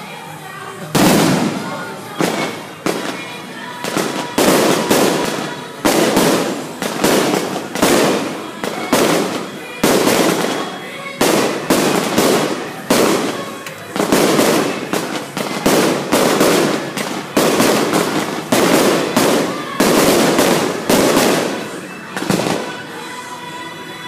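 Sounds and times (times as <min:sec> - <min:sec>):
firework shells bursting: 0:01.0 - 0:22.8.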